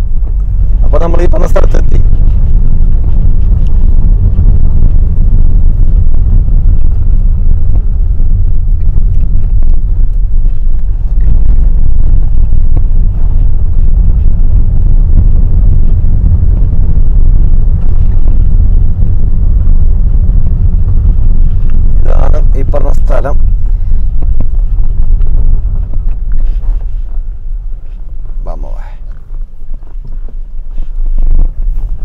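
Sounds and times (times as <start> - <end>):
car engine and tyre rumble: 0.0 - 32.0.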